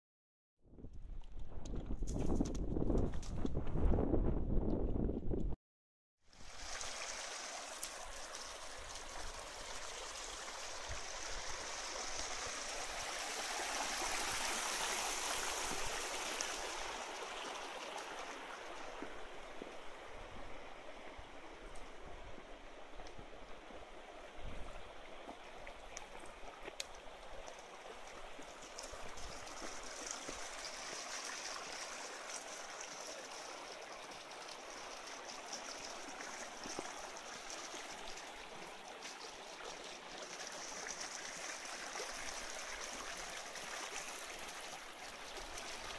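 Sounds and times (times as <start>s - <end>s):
stream babbling over stones: 6.3s - 45.9s.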